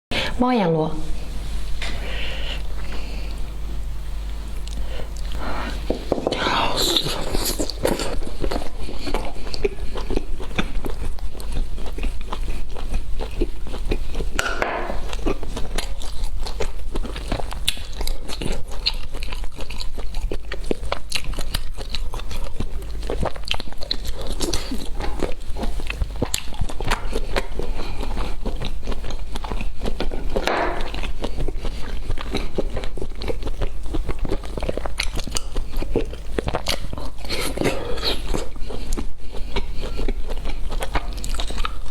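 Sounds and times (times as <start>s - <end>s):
crunchy food being chewed: 1.8s - 41.9s.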